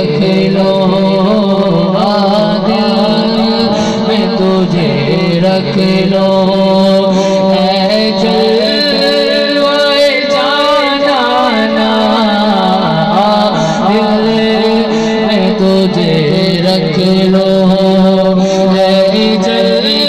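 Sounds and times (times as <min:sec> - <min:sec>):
low sung drone: 0:00.0 - 0:20.0
man singing into a microphone: 0:00.0 - 0:20.0.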